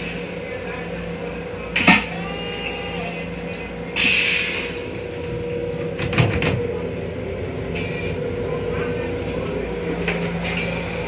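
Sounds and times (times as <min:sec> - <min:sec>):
train running hum: 0:00.0 - 0:11.0.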